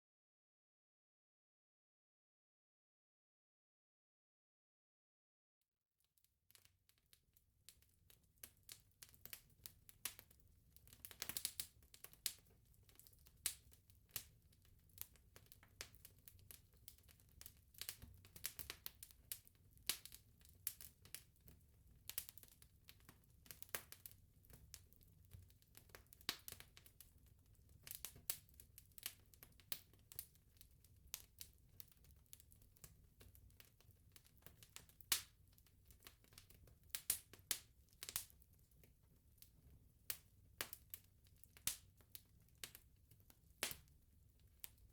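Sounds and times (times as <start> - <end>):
bonfire crackling and popping: 7.7 - 44.9.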